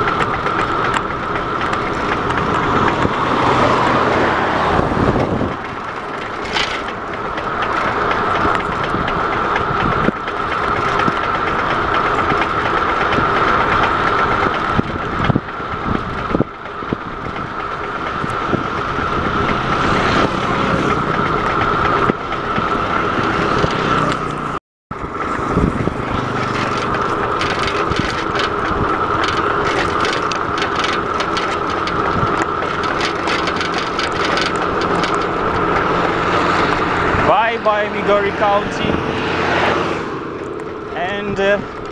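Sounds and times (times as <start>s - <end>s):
steady high whine: 0.0s - 41.9s
wind and road noise: 0.0s - 41.9s.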